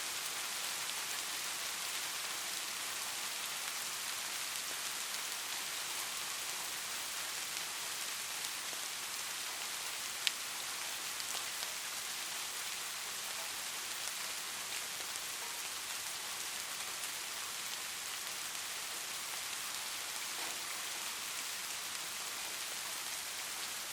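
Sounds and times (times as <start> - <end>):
light rain falling: 0.0 - 23.9.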